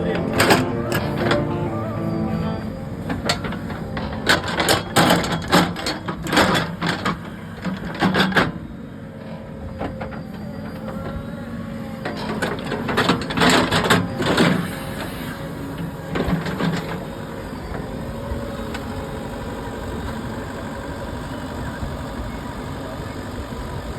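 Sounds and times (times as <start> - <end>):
backhoe engine running: 0.0 - 23.9.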